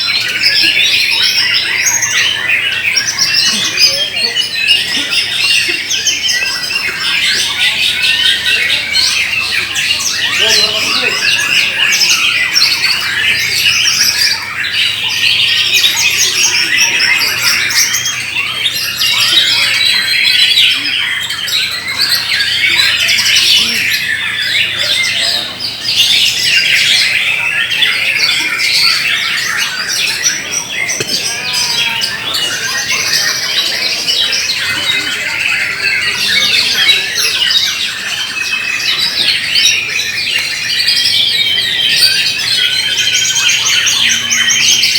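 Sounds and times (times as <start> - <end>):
many caged birds singing: 0.0 - 44.9.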